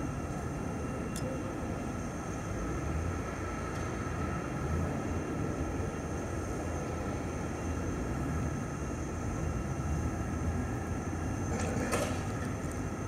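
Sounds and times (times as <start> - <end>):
faint engine whine: 0.0 - 13.0
jet engines rumbling: 0.0 - 13.0.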